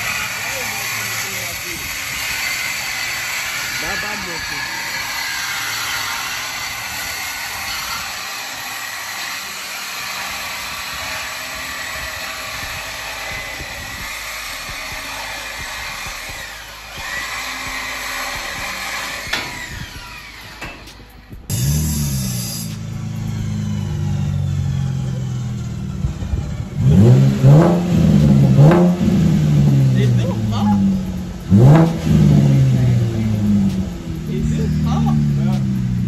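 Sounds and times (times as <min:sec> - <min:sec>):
power tool cutting steel pipe: 0:00.0 - 0:36.0.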